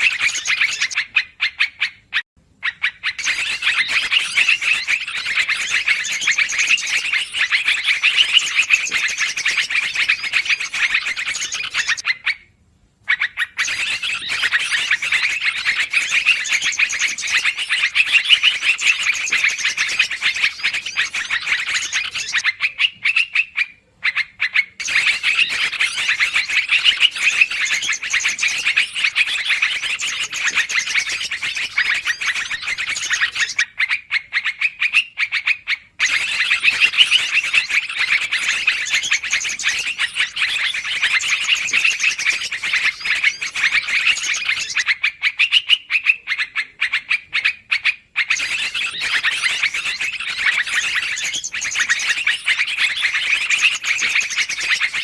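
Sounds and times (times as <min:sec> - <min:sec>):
rapid overlapping bird chirps: 0:00.0 - 0:12.1, 0:13.2 - 0:55.0.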